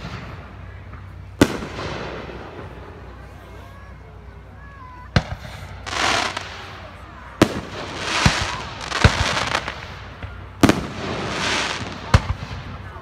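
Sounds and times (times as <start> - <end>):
firework bangs: 0.0 - 3.3, 5.1 - 13.0
firework crackling: 0.0 - 13.0.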